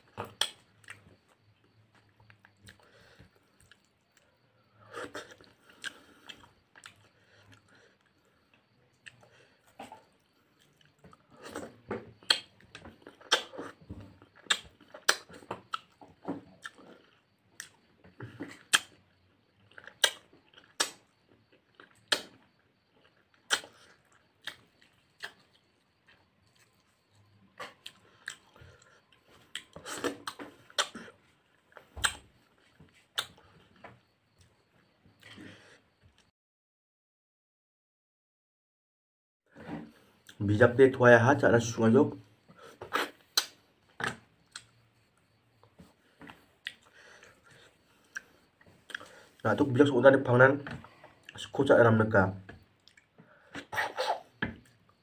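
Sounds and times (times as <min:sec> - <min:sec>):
man chewing with smacking lips: 0:00.0 - 0:36.3, 0:39.6 - 0:40.4, 0:42.4 - 0:49.5, 0:50.6 - 0:51.6, 0:52.5 - 0:55.0.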